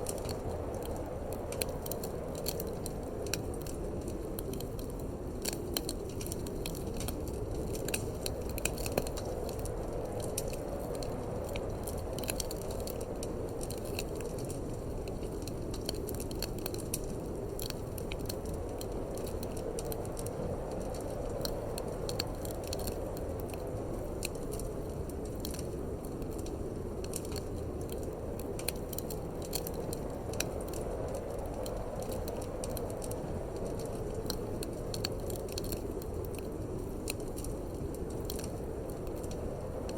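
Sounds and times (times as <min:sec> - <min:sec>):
rushing wind: 0:00.0 - 0:39.9
wood fire crackling and popping: 0:00.0 - 0:39.9.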